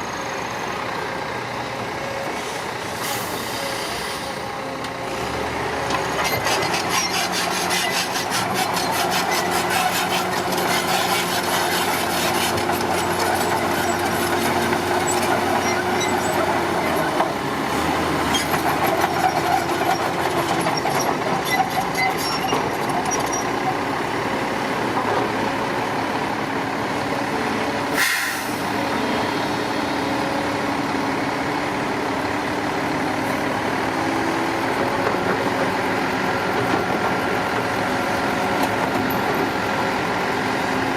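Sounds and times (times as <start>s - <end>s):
diesel earthmoving machinery: 0.0s - 40.9s.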